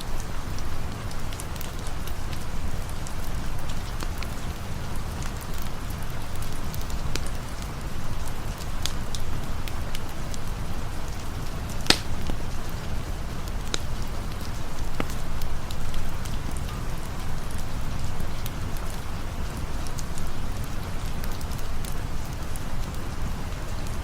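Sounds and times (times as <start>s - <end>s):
campfire crackles: 0.0s - 24.0s
rain falling: 0.0s - 24.0s.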